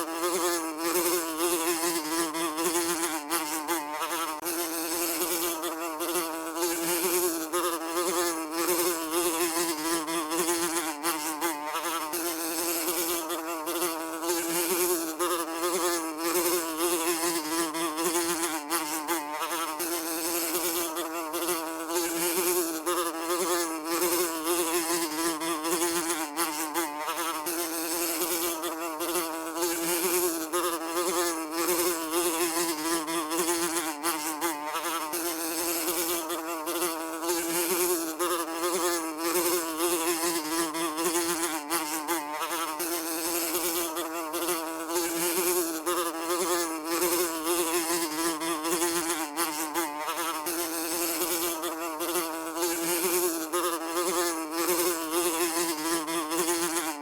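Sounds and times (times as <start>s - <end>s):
housefly buzzing: 0.0s - 57.0s.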